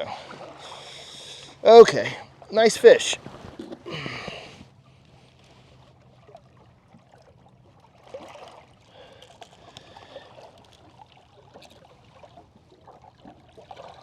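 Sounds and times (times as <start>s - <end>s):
faint low motor hum: 0.0s - 14.0s
water trickling: 0.0s - 14.0s.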